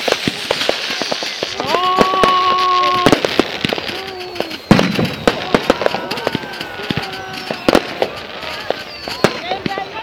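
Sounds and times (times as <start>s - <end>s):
loud firework bang: 0.0s - 9.8s
firework whistling: 0.0s - 10.0s
fireworks crackling and popping: 0.0s - 10.0s.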